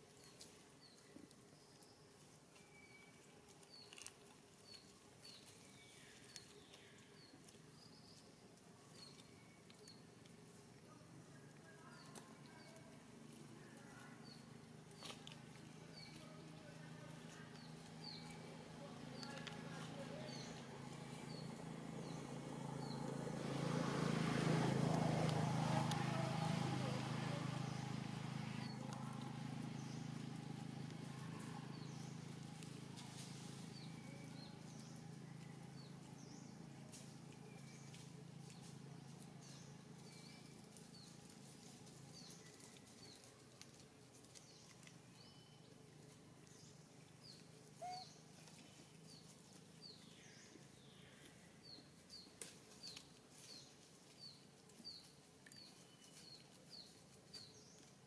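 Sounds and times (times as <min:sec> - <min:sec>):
small birds chirping: 0:00.0 - 0:58.0
low engine hum: 0:04.7 - 0:58.0.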